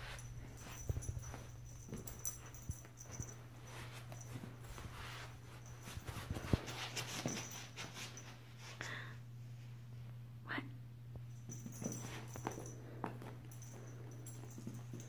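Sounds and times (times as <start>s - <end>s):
kitten wrestling a toy on carpet: 0.0s - 8.4s, 11.3s - 15.0s
low steady hum: 0.0s - 15.0s.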